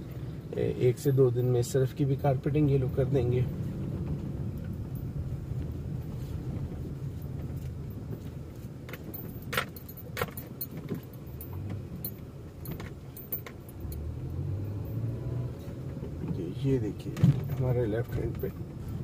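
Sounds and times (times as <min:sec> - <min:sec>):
car road and engine noise: 0:00.0 - 0:19.0
rattles and clicks in car: 0:00.0 - 0:19.0.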